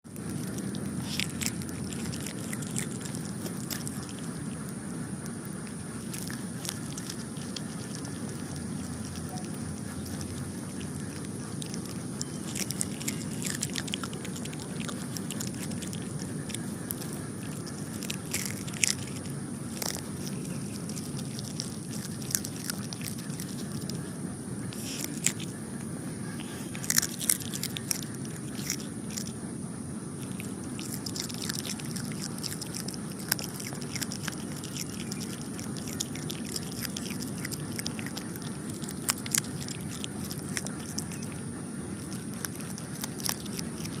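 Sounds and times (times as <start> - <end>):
otter chewing food: 0.0 - 44.0.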